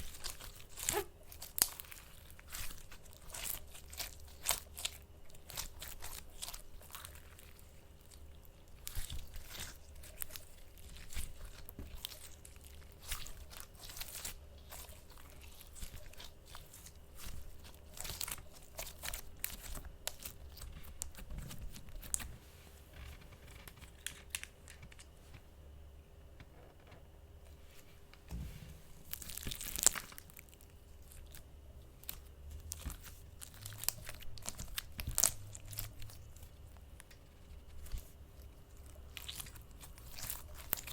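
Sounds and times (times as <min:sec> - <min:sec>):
slime crackling and popping: 0:00.0 - 0:22.3, 0:29.0 - 0:40.9.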